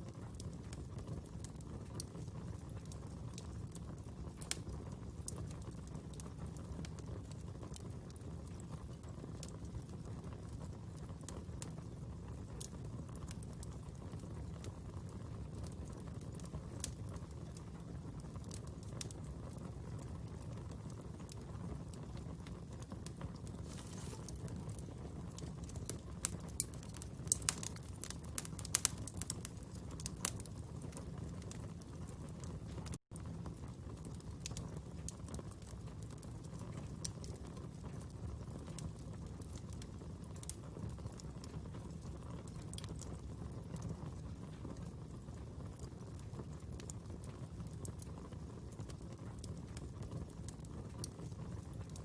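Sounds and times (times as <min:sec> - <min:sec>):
fire burning and crackling: 0:00.0 - 0:52.0.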